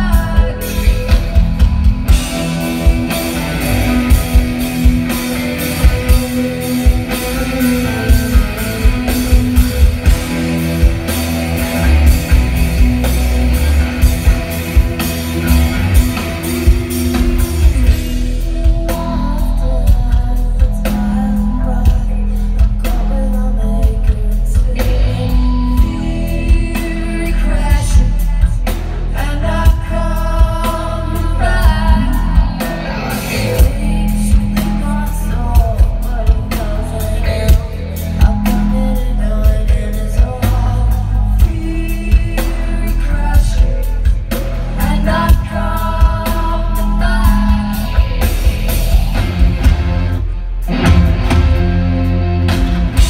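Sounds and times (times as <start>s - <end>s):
woman singing: 0.0s - 48.8s
bass guitar: 0.0s - 53.0s
distorted electric guitar: 0.0s - 53.0s
drums: 0.0s - 53.0s.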